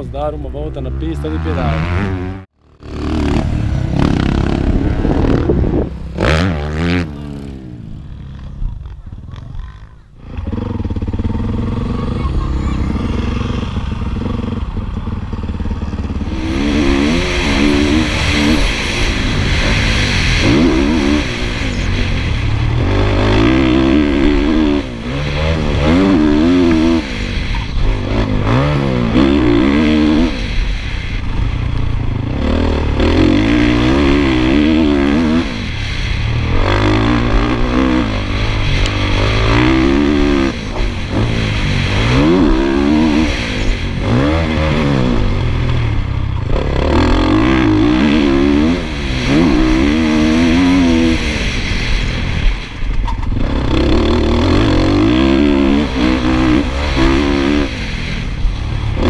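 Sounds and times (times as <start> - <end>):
motocross bike engine revving: 0.0 - 59.0
wind noise: 1.4 - 59.0.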